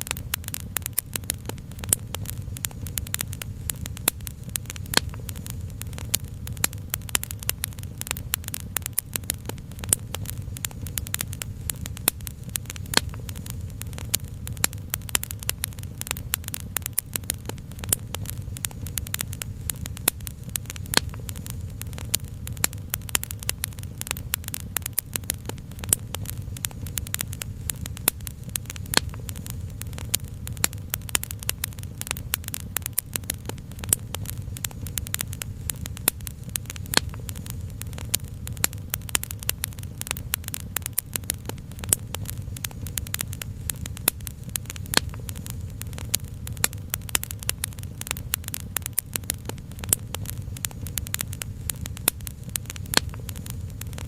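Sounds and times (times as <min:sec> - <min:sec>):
low steady rumble: 0:00.0 - 0:54.0
wood fire crackling: 0:00.0 - 0:54.0.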